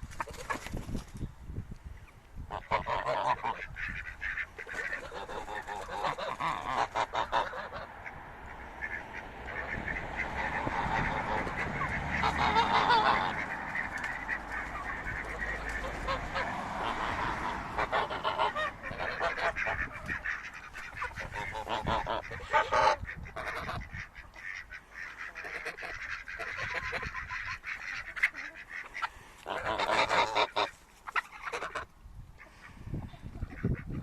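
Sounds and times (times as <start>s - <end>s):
geese honking: 2.5s - 34.0s.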